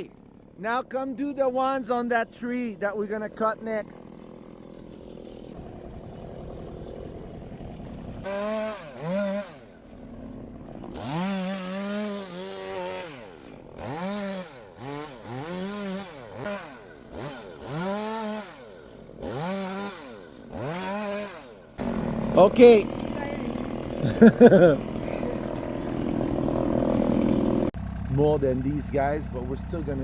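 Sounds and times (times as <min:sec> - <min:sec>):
chainsaw running and revving: 0:00.0 - 0:30.0.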